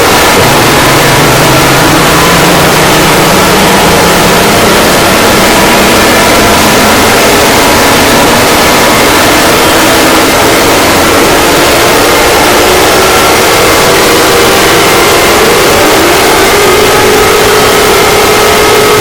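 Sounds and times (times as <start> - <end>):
faint steady tones: 0.0 - 19.0
loud static noise: 0.0 - 19.0.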